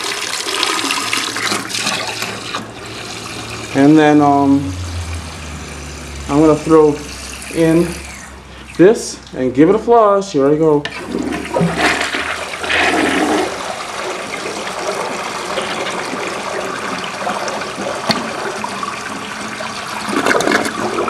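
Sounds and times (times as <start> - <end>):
toilet flushing: 0.0 - 9.4, 10.8 - 21.0.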